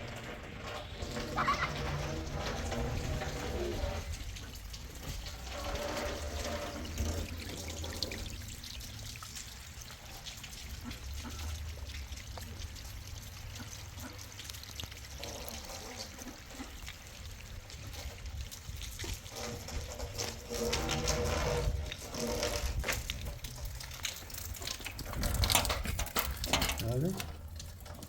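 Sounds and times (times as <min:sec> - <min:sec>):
water trickling and pouring: 0:00.0 - 0:28.0.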